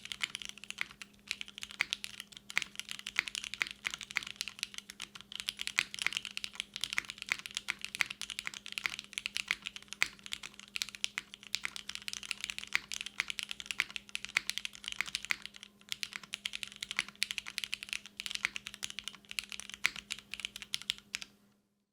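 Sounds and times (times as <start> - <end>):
fast typing on mechanical keyboard: 0.0 - 21.3.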